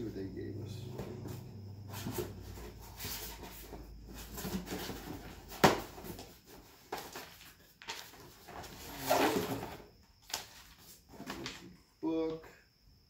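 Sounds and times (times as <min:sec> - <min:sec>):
cardboard rustling and scraping: 0:00.9 - 0:11.7.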